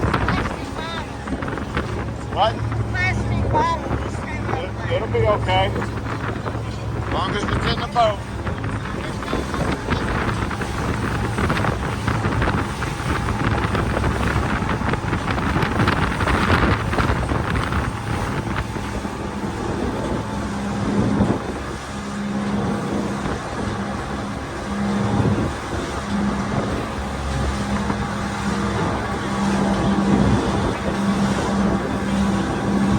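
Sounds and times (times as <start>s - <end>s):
boat engine running: 0.0s - 32.9s
wind buffeting microphone: 0.0s - 32.9s.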